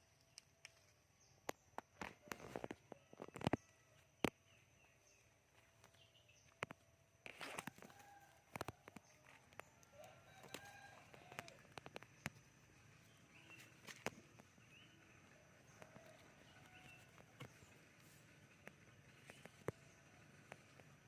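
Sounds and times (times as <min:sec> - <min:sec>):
bird chirps and clucks: 0:01.5 - 0:21.0.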